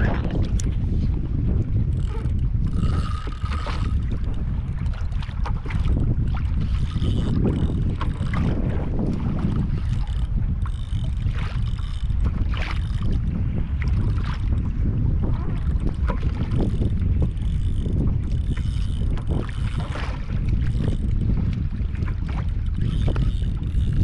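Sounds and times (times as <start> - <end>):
water against kayak hull: 0.0 - 24.0
wind buffeting microphone: 0.0 - 24.0.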